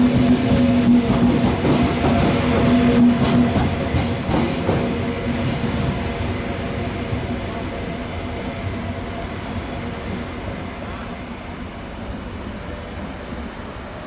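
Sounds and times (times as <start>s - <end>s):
train running noise: 0.0s - 14.0s.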